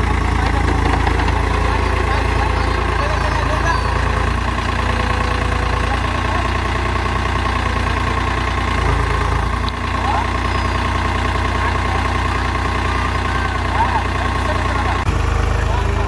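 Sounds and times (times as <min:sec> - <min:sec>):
tractor diesel engine rumbling: 0:00.0 - 0:16.0.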